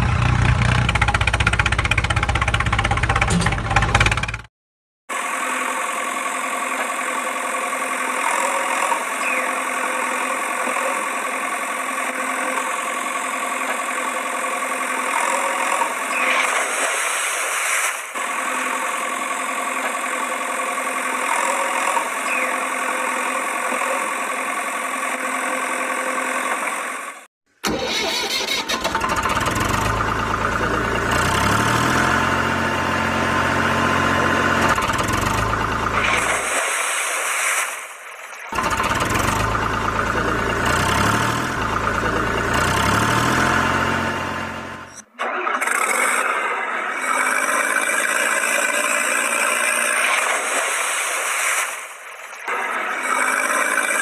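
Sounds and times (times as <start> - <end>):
deeper engine idling and revving: 0.0 - 4.5, 5.3 - 16.2, 18.2 - 27.3, 28.7 - 36.6, 38.5 - 50.3
engine running: 0.0 - 4.5, 5.1 - 37.0, 38.0 - 54.0.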